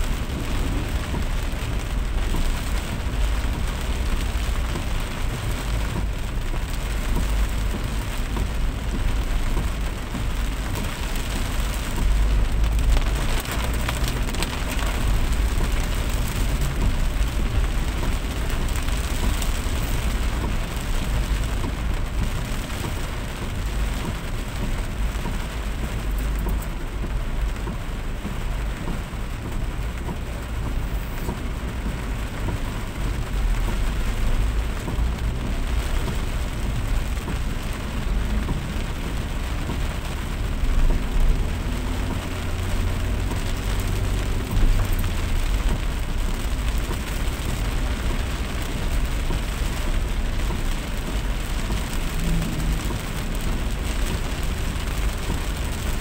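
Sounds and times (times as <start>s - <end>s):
deep low rumble: 0.0s - 25.2s, 28.0s - 56.0s
heavy rain: 0.0s - 56.0s.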